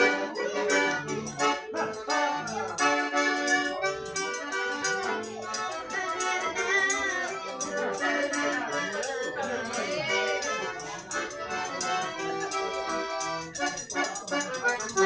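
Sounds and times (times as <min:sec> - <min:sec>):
accordion music: 0:00.0 - 0:15.0
shaker-like percussion beat: 0:00.0 - 0:15.0.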